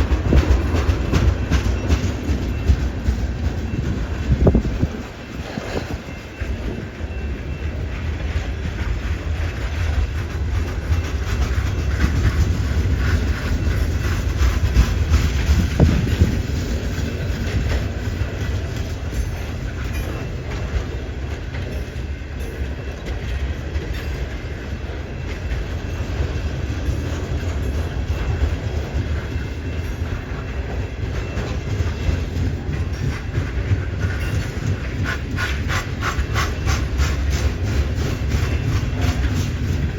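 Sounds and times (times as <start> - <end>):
train low rumble: 0.0 - 39.9
train wheels clacking on rails: 0.0 - 39.9.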